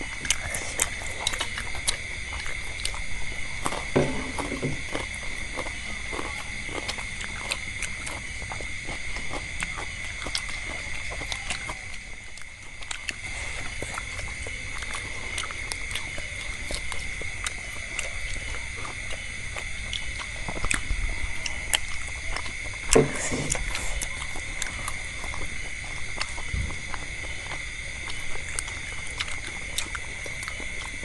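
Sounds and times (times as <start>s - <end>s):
chewing and utensil clicks: 4.6s - 13.3s, 13.9s - 22.9s, 23.5s - 31.0s.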